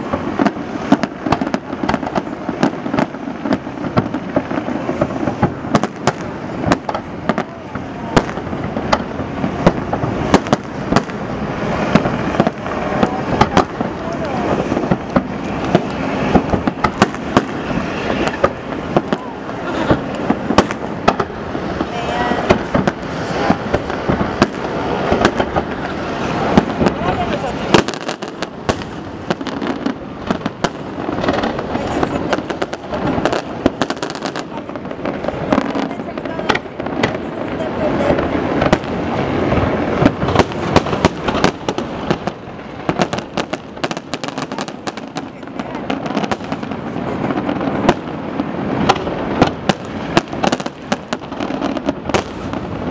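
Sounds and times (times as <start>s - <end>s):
fireworks bursting with bangs: 0.0s - 52.9s
rumble of detonations: 0.0s - 52.9s.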